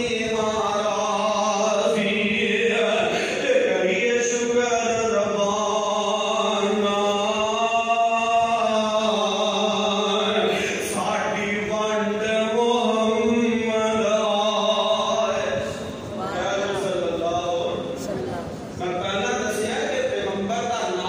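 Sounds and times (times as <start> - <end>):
man chanting into microphone: 0.0 - 21.0.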